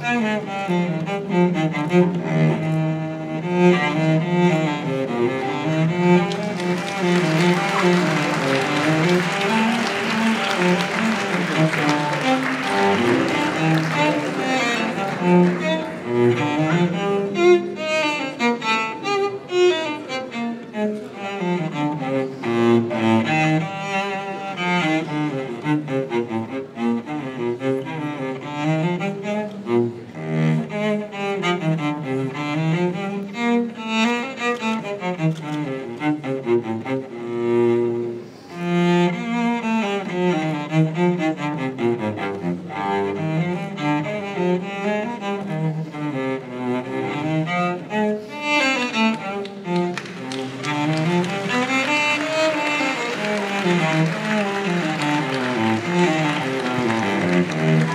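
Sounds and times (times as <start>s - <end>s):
cello melody: 0.0s - 57.9s.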